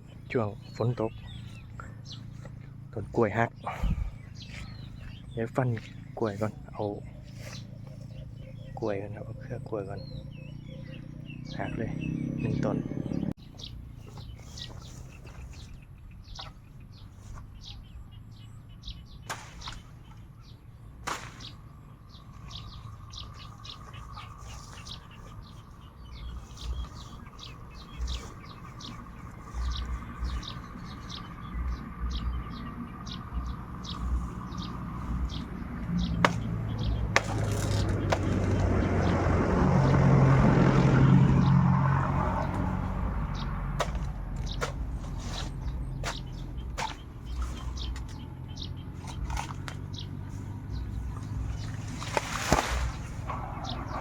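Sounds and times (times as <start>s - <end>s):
birds chirping: 0.0s - 54.0s
motor vehicle passing: 0.0s - 54.0s.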